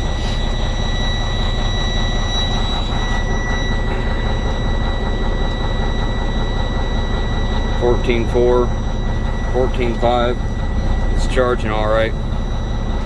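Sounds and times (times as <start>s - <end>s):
diesel engine idling: 0.0s - 13.0s
high-pitched whine: 0.0s - 13.0s.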